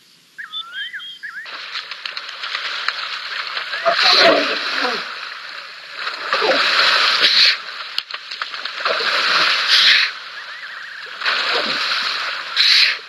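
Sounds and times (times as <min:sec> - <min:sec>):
hippos splashing in water: 0:01.4 - 0:13.0.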